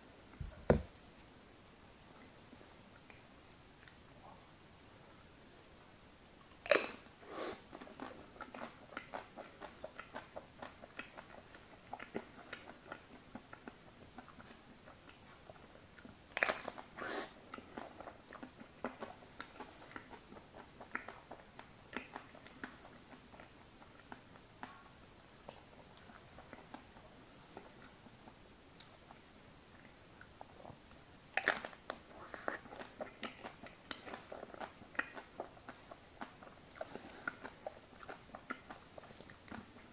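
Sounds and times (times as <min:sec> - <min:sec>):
biting and wet chewing: 0:05.2 - 0:39.9.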